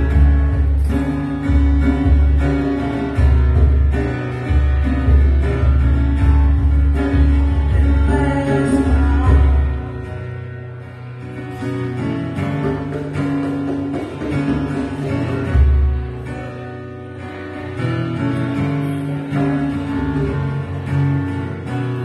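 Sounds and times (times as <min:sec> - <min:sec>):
acoustic guitar strummed slowly: 0:00.0 - 0:22.0.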